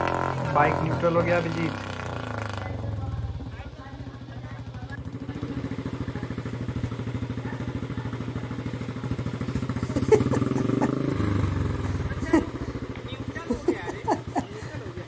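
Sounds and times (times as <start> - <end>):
single-cylinder engine running: 0.0 - 15.0.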